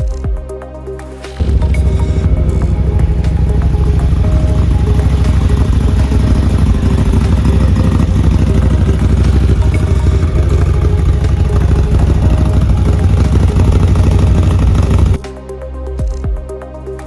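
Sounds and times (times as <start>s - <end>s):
vehicle engine running: 1.4s - 15.2s.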